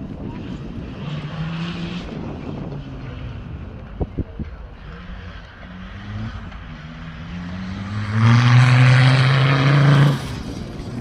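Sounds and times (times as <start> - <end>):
racing vehicle engine revving: 0.5 - 11.0.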